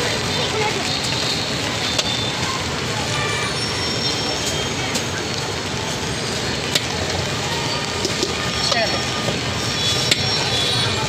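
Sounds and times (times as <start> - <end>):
crowd noise: 0.0 - 11.0
steady traffic: 0.0 - 11.0.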